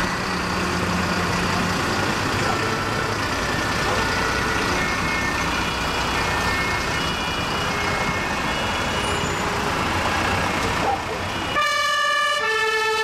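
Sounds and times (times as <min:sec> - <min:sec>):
fire trucks driving past: 0:00.0 - 0:13.0.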